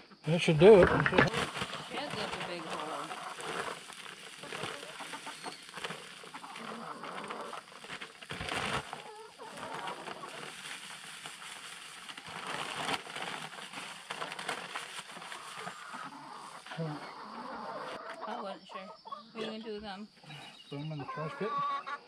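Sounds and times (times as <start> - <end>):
hens clucking: 0.0 - 11.2, 13.2 - 19.8, 20.7 - 22.0.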